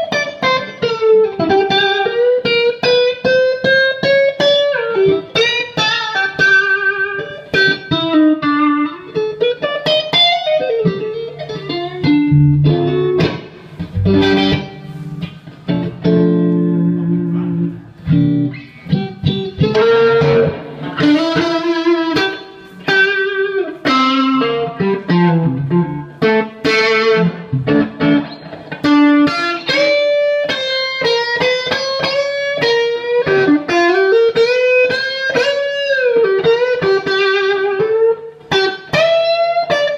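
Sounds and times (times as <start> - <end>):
overdriven electric guitar lead: 0.0 - 39.9.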